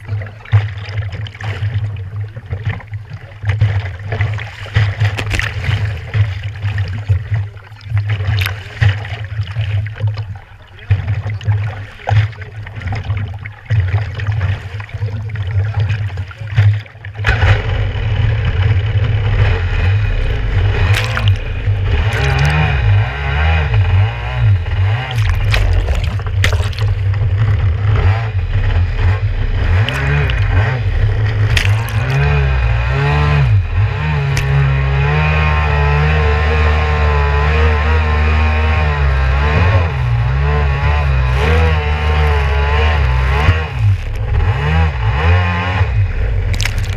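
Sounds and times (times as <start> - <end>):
water spraying off hull: 0.0 - 36.7, 39.3 - 46.9
jet ski engine revving: 0.0 - 46.9.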